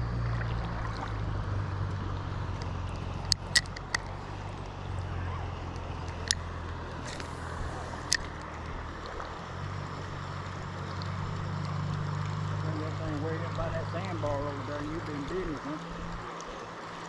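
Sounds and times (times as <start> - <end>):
river water swishing around legs: 0.0 - 17.0.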